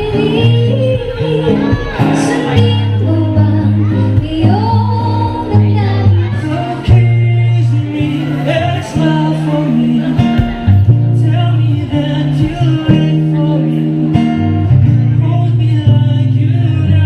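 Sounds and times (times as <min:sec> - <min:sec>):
acoustic guitar: 0:00.0 - 0:17.0
low bass notes: 0:00.0 - 0:17.0
person singing: 0:00.0 - 0:17.0.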